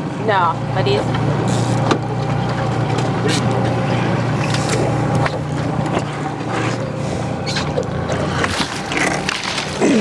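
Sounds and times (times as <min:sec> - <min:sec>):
boat motor running: 0:00.0 - 0:10.0
water splashing: 0:00.9 - 0:10.0.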